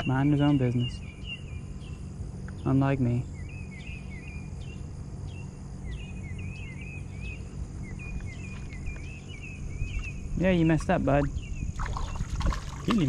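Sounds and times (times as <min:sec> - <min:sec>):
insect chorus droning: 0:00.0 - 0:13.0
low steady hum: 0:00.0 - 0:13.0
short chirping calls: 0:00.0 - 0:13.0.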